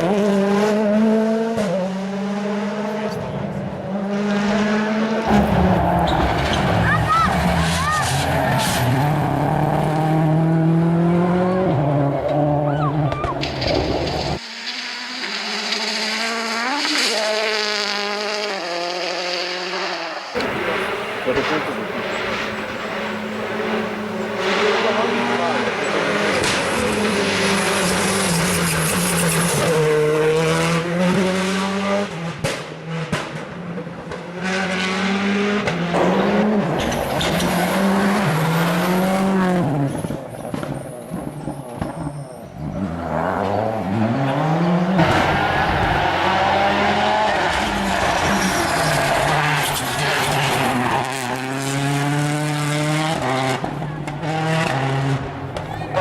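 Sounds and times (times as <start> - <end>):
rally car engines revving hard: 0.0 - 56.0.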